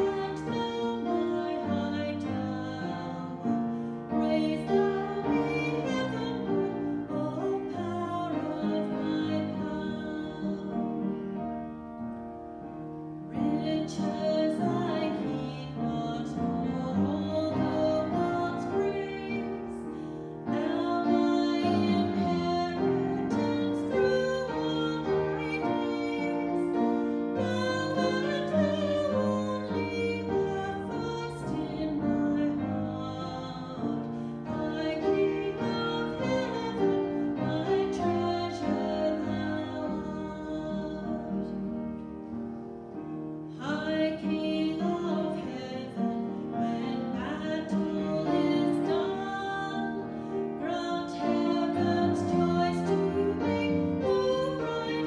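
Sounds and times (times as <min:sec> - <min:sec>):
woman singing a hymn: 0:00.0 - 0:11.5, 0:13.3 - 0:41.7, 0:43.5 - 0:55.0
upright piano: 0:00.0 - 0:55.0.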